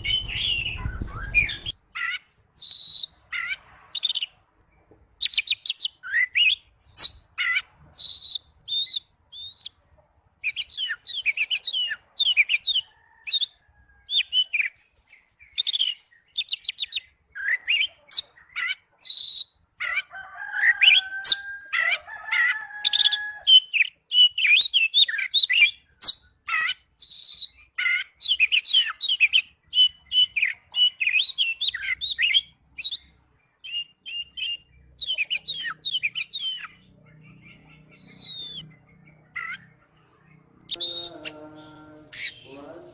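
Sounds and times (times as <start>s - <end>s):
bird singing chirps and trills: 0.0s - 9.8s, 10.4s - 20.1s, 20.7s - 42.9s.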